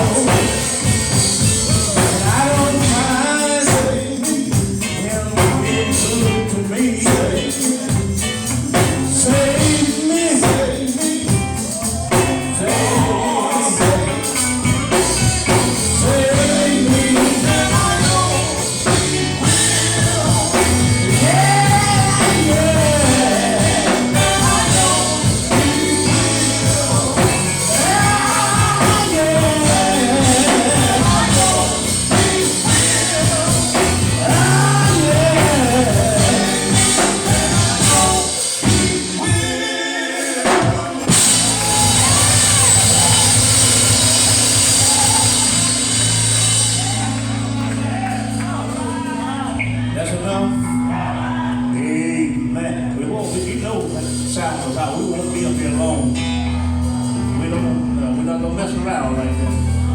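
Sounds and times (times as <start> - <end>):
gospel singing over a band: 0.0 - 59.9.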